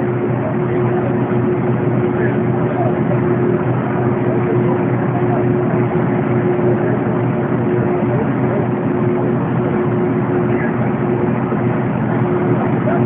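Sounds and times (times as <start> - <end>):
boat engine running: 0.0 - 13.0
steady rushing noise: 0.0 - 13.0.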